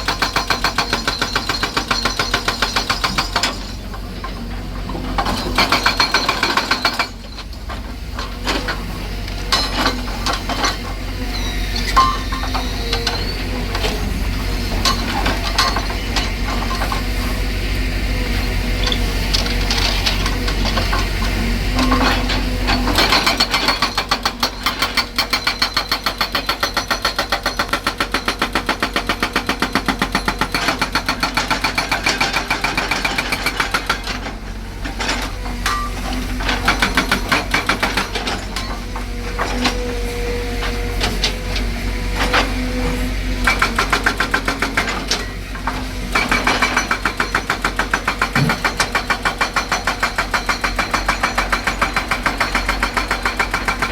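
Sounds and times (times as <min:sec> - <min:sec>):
hydraulic breaker hammering: 0:00.0 - 0:17.4, 0:18.8 - 0:53.9
excavator engine running: 0:00.0 - 0:53.9.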